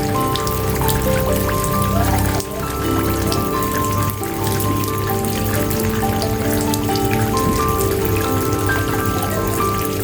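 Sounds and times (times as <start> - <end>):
rain falling: 0.0 - 10.0
soft instrumental music: 0.0 - 10.0.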